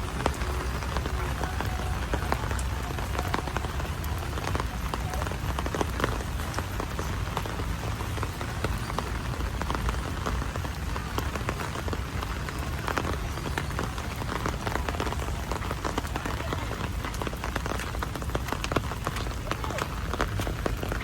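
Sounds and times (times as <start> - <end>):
heavy rain hissing: 0.0 - 21.0
raindrop hits: 0.0 - 21.0.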